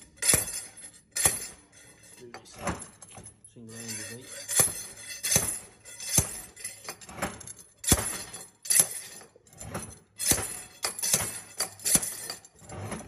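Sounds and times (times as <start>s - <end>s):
slide hammer metallic clanks: 0.0s - 13.0s.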